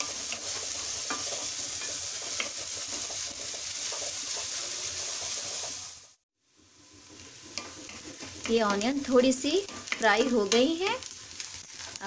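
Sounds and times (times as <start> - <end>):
spatula scraping and tapping pan: 0.0 - 5.8, 6.8 - 11.8
onions sizzling in hot oil: 0.0 - 12.0.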